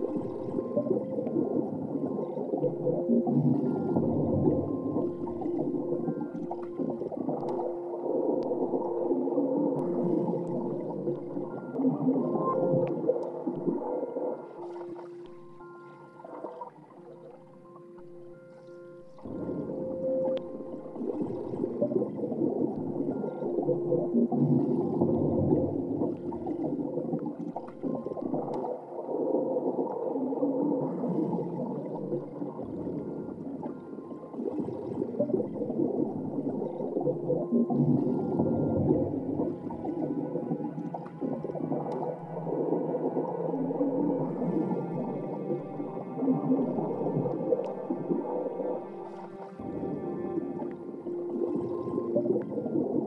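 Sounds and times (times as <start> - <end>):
drawn-out moaning tones: 0.0 - 18.4, 19.2 - 53.0
low gurgling and bubbling: 0.0 - 53.0.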